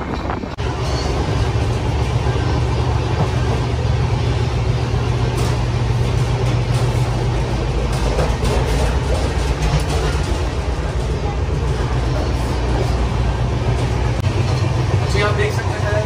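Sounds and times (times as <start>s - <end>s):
loud low hum: 0.0s - 16.0s
train coach running noise: 0.0s - 16.0s.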